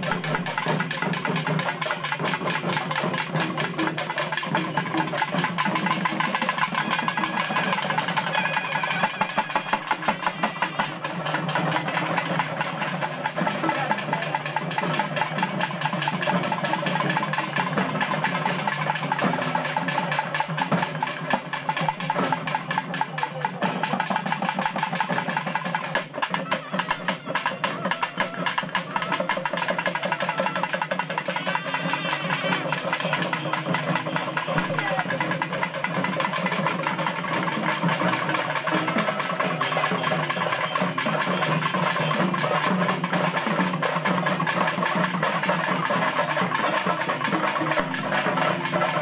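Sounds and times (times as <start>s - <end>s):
barrel drums played fast: 0.0s - 49.0s.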